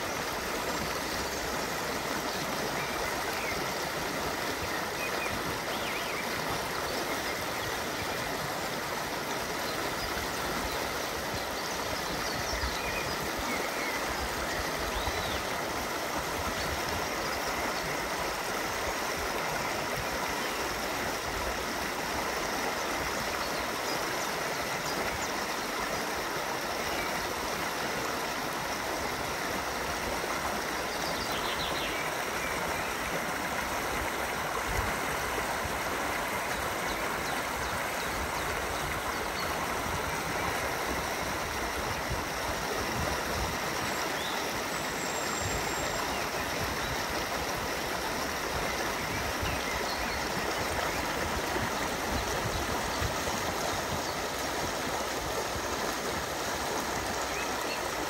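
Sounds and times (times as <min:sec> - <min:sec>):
stream rushing water: 0:00.0 - 0:58.0.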